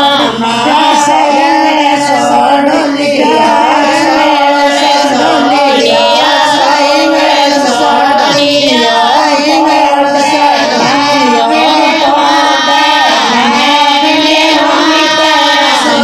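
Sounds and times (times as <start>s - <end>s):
devotional song in high voice: 0.0s - 16.0s.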